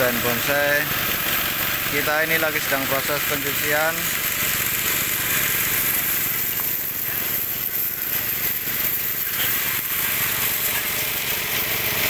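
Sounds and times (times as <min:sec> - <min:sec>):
high-pressure water jet spraying rock: 0:00.0 - 0:12.0
small pump engine running: 0:00.0 - 0:12.0.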